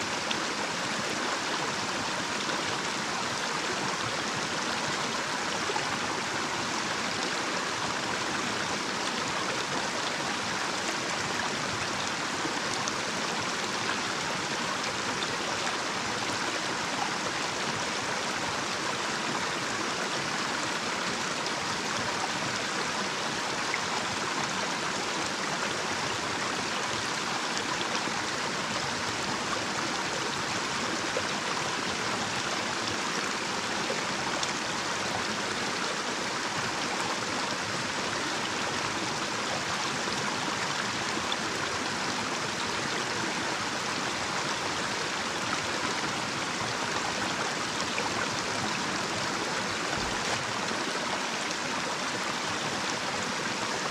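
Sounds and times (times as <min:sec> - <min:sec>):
stream rushing over small cascade: 0:00.0 - 0:53.9.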